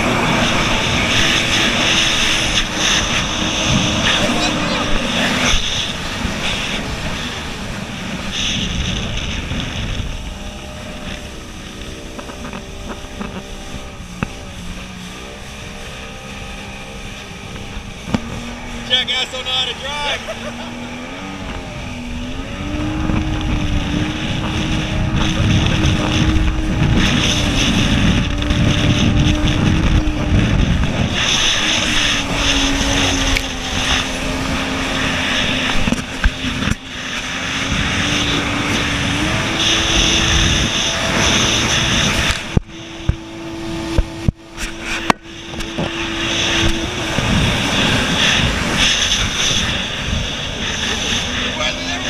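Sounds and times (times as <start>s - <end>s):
jet ski engine droning: 0.0s - 52.0s
water spray rushing: 0.0s - 52.0s
wind on microphone: 0.0s - 52.0s.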